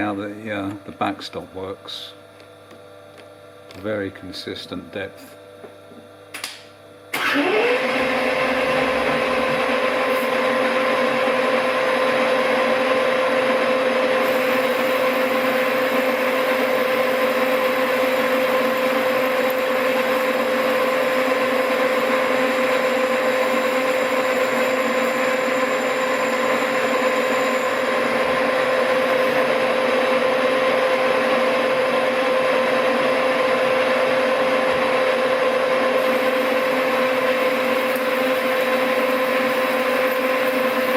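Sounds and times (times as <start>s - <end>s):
lathe motor whining: 7.1s - 40.9s.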